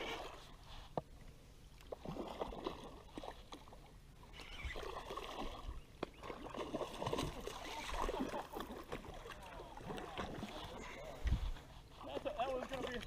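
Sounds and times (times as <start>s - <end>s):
water sloshing and gurgling: 0.0s - 13.0s.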